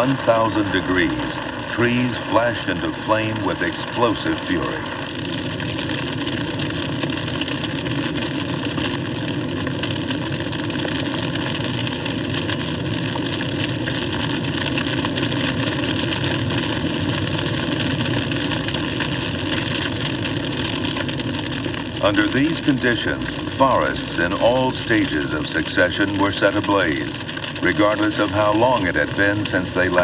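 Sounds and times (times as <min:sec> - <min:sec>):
fine crackling of fire: 0:00.0 - 0:30.0
fire rushing noise: 0:00.0 - 0:30.0.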